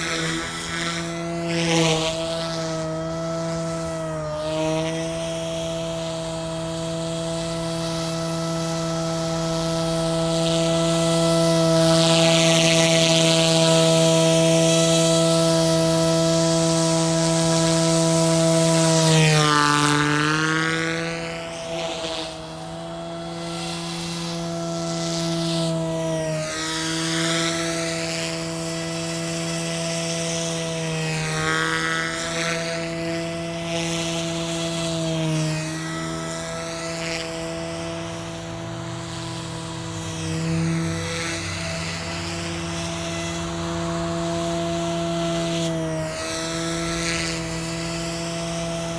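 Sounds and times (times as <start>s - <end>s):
rc helicopter buzzing whine: 0.0s - 48.9s.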